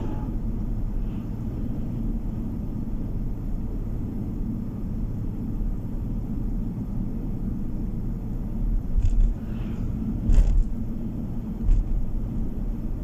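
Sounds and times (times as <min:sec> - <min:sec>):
car interior road noise: 0:00.0 - 0:13.0.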